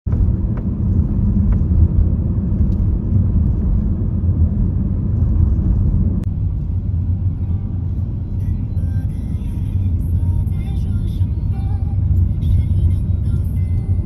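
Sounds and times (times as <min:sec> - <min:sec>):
moving car rumble: 0:00.0 - 0:14.0.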